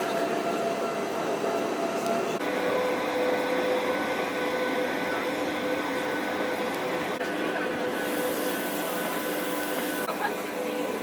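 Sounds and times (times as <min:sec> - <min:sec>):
train running noise: 0:00.0 - 0:11.0
motor whine: 0:00.1 - 0:11.0.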